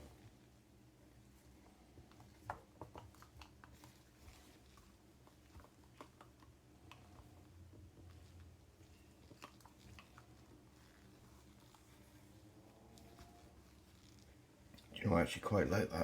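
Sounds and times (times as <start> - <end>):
low room hum: 0.0 - 16.0
small handling clicks and squishes: 1.2 - 15.1.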